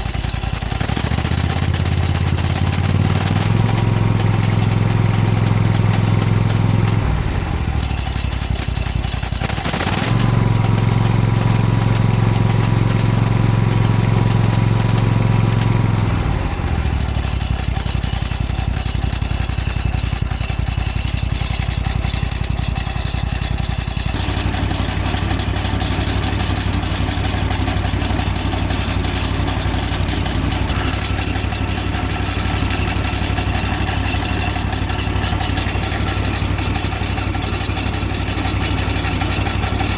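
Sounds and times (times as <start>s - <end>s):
mower engine humming: 0.0s - 39.9s.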